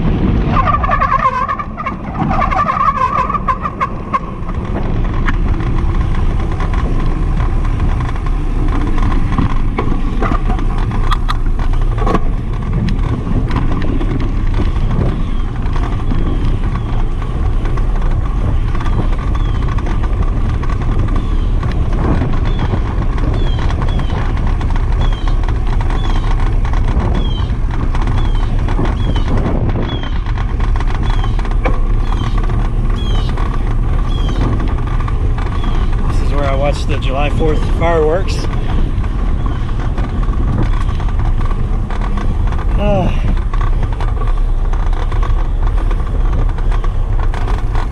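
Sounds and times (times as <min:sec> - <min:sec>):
bicycle tyres rattling on pavers: 0:00.0 - 0:47.9
wind rumble on microphone: 0:00.0 - 0:47.9.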